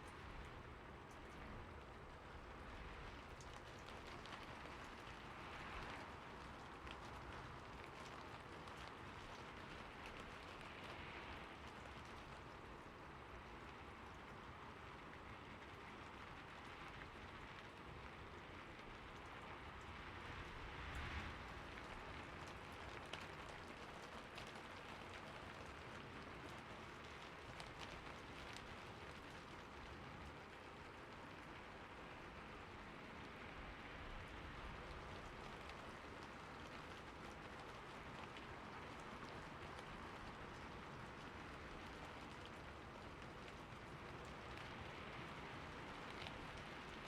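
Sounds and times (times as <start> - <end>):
raindrops ticking on a surface: 0.0 - 47.0
steady rain hiss: 0.0 - 47.0.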